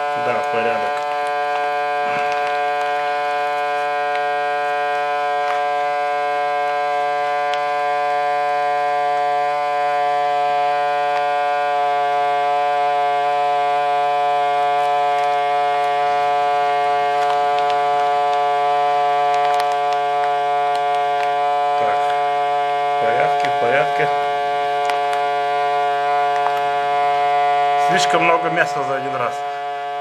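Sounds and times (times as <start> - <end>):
vacuum sealer pump humming: 0.0 - 30.0.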